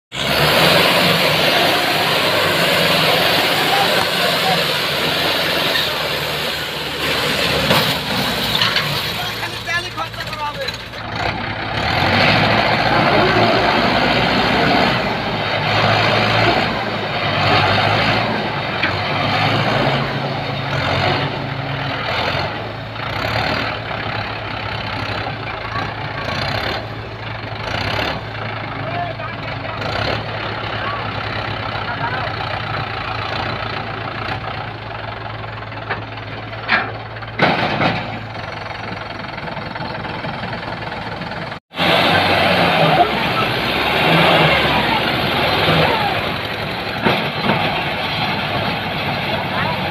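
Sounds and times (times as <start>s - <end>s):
tractor engine running: 0.1s - 49.9s.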